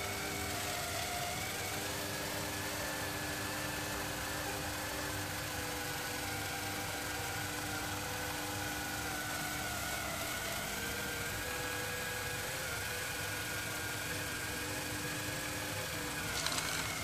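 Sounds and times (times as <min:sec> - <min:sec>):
robot vacuum cleaner whirring: 0:00.0 - 0:17.0.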